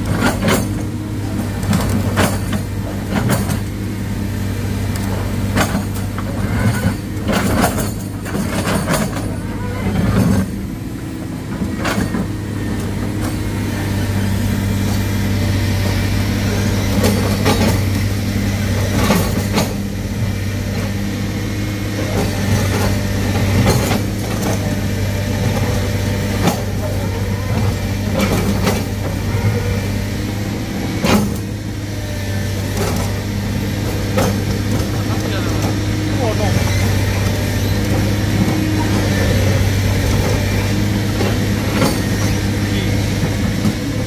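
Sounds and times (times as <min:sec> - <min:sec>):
diesel engine humming: 0:00.0 - 0:44.0.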